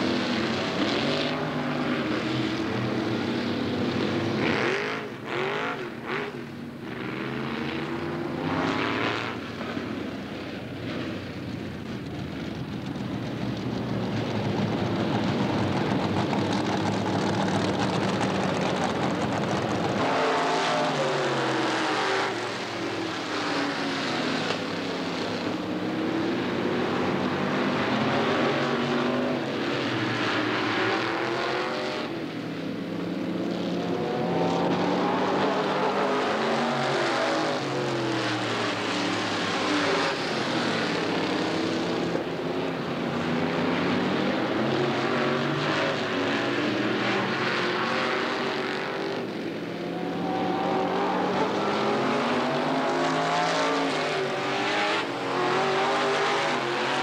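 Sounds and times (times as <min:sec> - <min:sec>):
racing car engines passing: 0:00.0 - 0:57.0.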